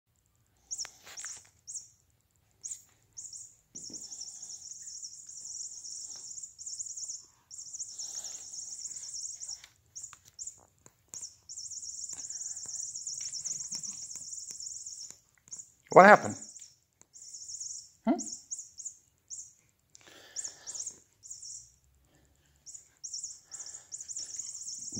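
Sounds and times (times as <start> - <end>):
toy chirping: 0.6 - 2.0, 2.6 - 21.8, 22.6 - 24.9.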